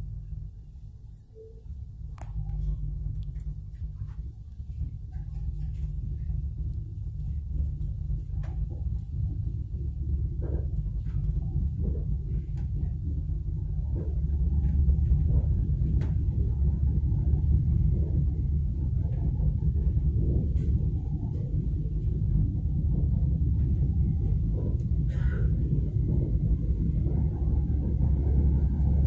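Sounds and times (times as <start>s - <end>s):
train rumble from inside car: 0.0s - 29.0s.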